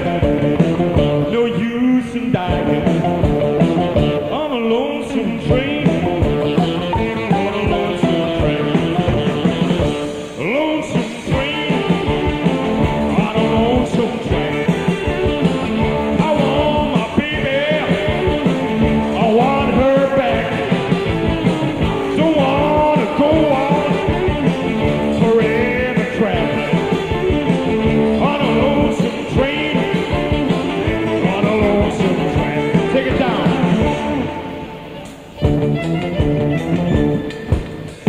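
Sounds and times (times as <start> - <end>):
person singing: 0.0 - 37.4
drums: 0.0 - 38.0
guitar: 0.0 - 38.0
rock and roll blues band: 0.0 - 38.0.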